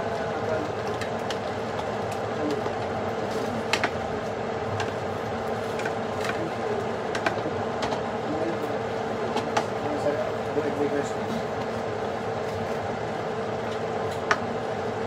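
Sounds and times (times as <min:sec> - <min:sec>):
stove hum and hiss: 0:00.0 - 0:15.0.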